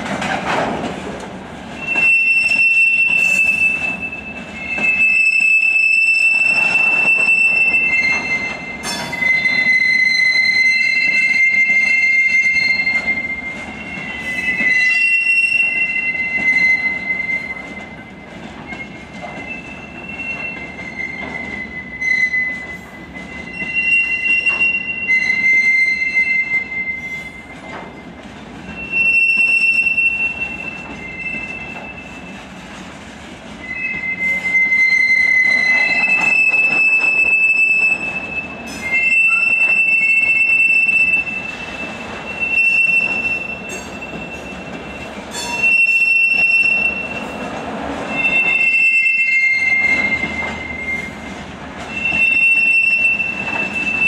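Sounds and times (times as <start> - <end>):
train wheels squealing: 1.6 - 32.7, 33.5 - 54.0.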